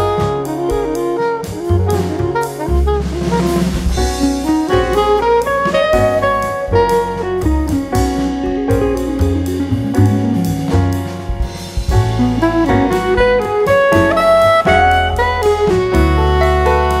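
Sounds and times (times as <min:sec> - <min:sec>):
saxophone melody: 0:00.0 - 0:10.9, 0:11.8 - 0:17.0
drum kit beat: 0:00.0 - 0:17.0.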